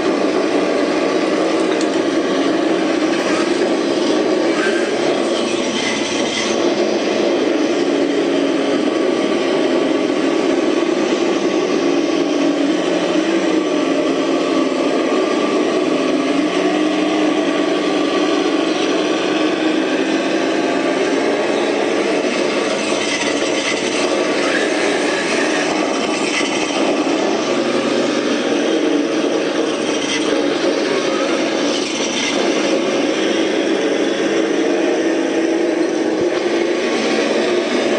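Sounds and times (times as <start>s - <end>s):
engine sound from speaker: 0.0s - 37.9s.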